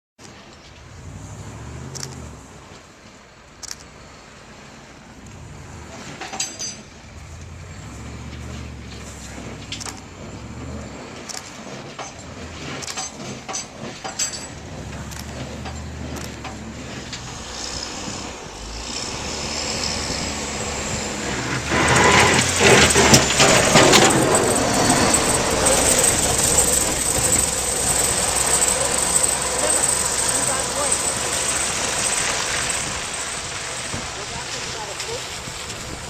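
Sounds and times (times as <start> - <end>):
truck engine passing: 0.3 - 36.0
harsh rushing noise: 7.0 - 36.0.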